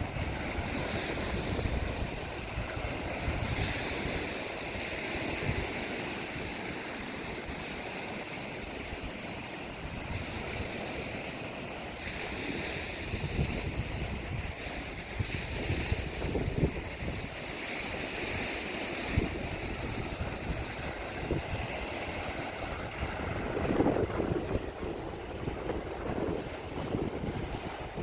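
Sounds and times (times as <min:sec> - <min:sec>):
wind rumbling on microphone: 0:00.0 - 0:11.4, 0:12.0 - 0:28.0
lake waves washing on shore: 0:00.0 - 0:28.0.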